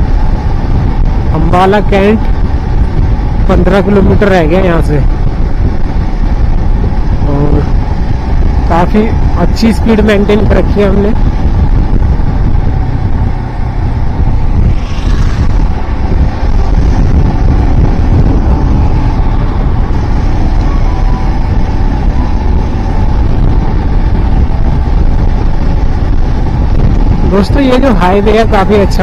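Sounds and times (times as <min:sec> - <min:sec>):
motorcycle engine cruising: 0:00.0 - 0:29.0
road noise: 0:00.0 - 0:29.0
wind buffeting microphone: 0:00.0 - 0:29.0.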